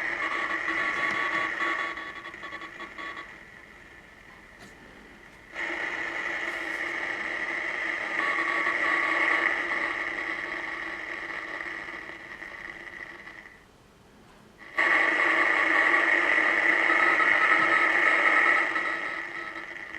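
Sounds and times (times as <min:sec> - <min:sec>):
harsh radio static: 0:00.0 - 0:03.6, 0:05.5 - 0:13.6, 0:14.6 - 0:19.9
steady radio tones: 0:00.0 - 0:13.7, 0:14.6 - 0:19.9.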